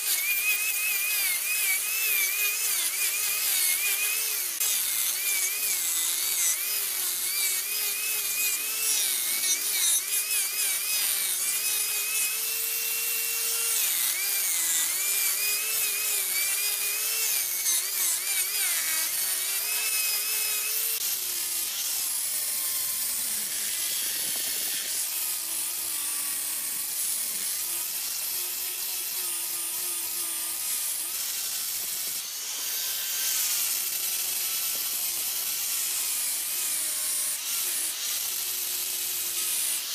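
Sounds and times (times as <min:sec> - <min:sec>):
angle grinder motor whine: 0:00.0 - 0:39.9
rasp of wood being abraded: 0:00.0 - 0:39.9.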